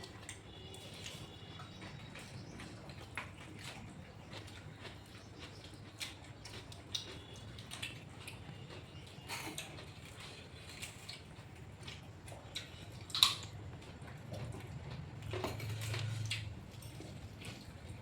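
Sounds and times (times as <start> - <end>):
person chewing wetly: 0.0 - 18.0.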